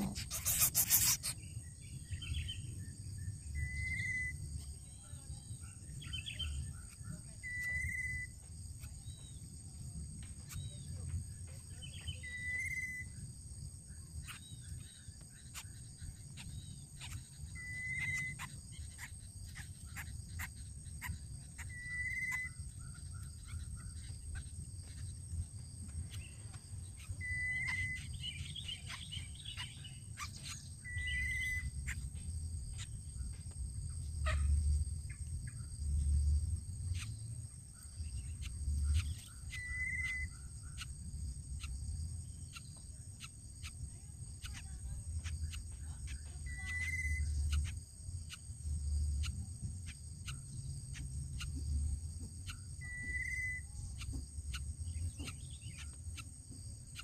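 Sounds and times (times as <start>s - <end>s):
high insect hiss: 0.0s - 57.0s.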